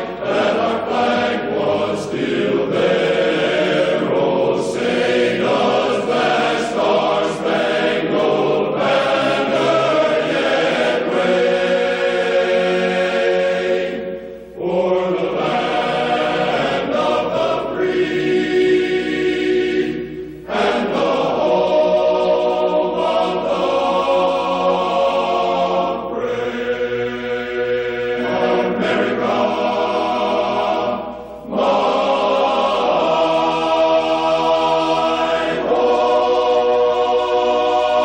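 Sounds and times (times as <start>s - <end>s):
choir singing long chords: 0.0s - 38.0s.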